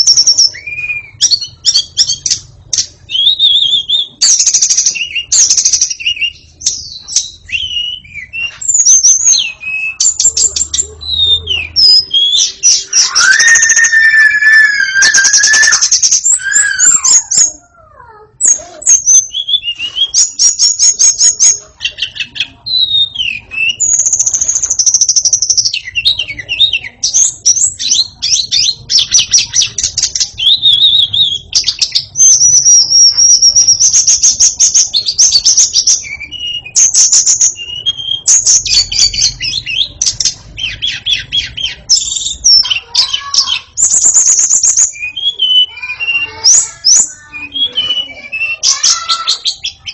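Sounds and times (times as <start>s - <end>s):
songbird trilling and whistling: 0.0s - 49.9s.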